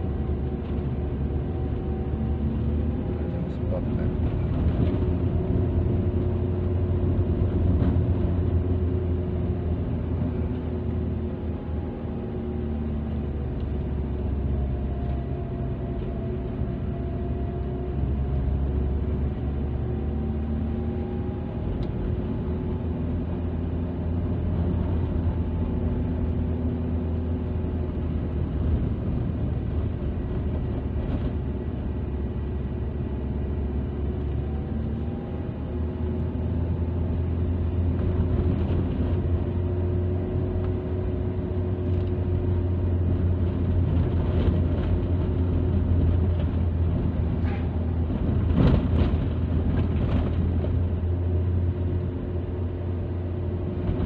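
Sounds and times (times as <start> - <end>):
car engine drone: 0.0 - 54.0
road rumble: 0.0 - 54.0.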